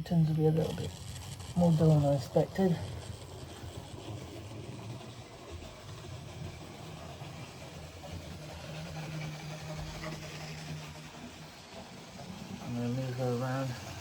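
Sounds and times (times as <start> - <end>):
electric motor hum: 0.0 - 14.0
train wheels on rails: 0.0 - 14.0.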